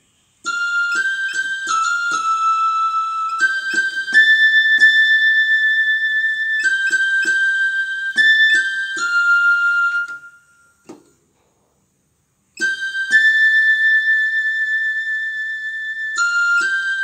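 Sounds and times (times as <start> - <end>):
flute-like synthesizer notes: 0.5 - 10.8, 12.6 - 17.0.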